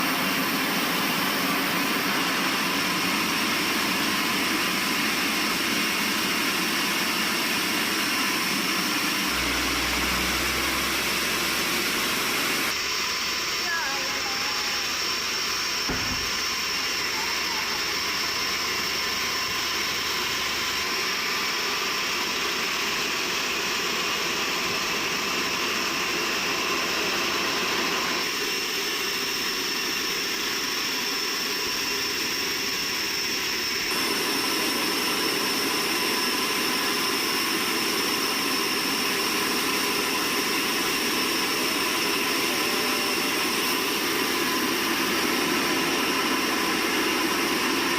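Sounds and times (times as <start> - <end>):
sawmill machinery droning: 0.0 - 47.9.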